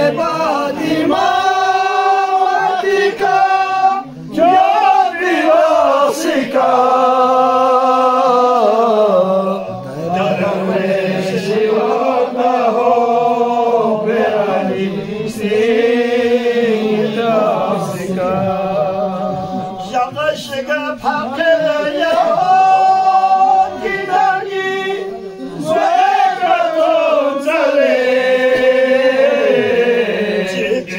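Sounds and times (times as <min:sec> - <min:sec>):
lead voice on a microphone: 0:00.0 - 0:30.9
men chanting in unison: 0:00.0 - 0:30.9.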